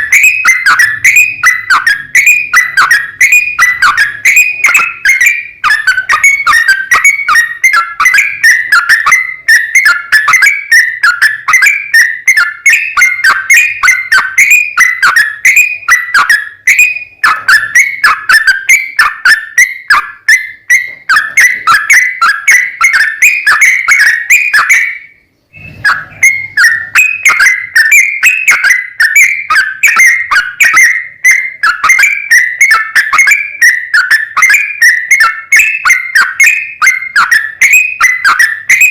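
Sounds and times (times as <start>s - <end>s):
bird singing rapid chirps: 0.0s - 38.9s.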